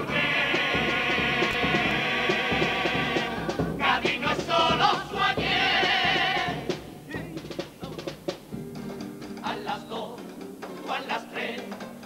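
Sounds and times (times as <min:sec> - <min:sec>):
male chorus singing in harmony: 0:00.0 - 0:08.4, 0:09.4 - 0:12.0
guitar accompaniment: 0:00.0 - 0:12.0.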